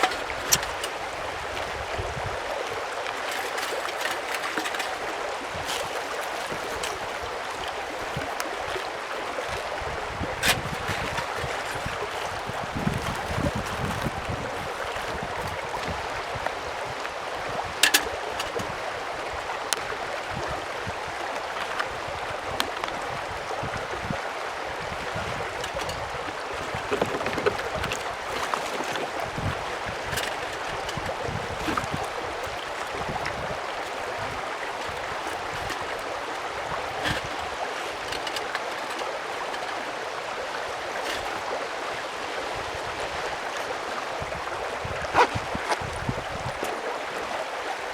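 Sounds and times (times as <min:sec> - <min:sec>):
mountain stream rushing: 0:00.0 - 0:47.9.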